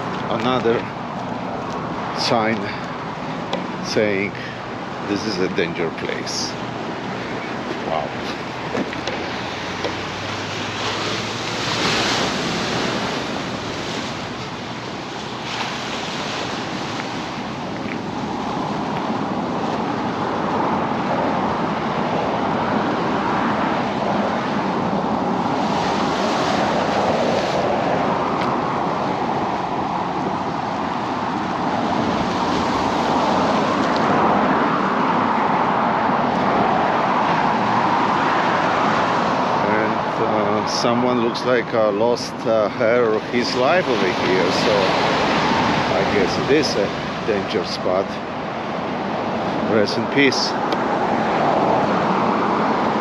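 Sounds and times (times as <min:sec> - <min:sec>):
ocean surf washing on beach: 0:00.0 - 0:53.0
wind: 0:00.0 - 0:53.0.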